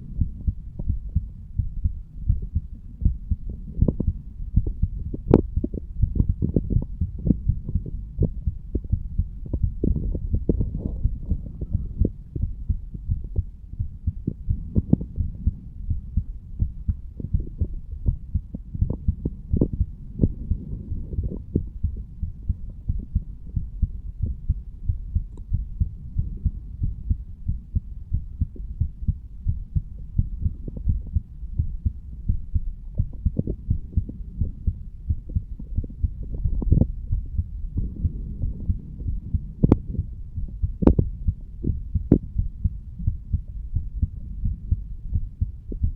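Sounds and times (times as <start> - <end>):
continuous low rumble: 0.0 - 45.9
heartbeat thumps: 0.0 - 45.9.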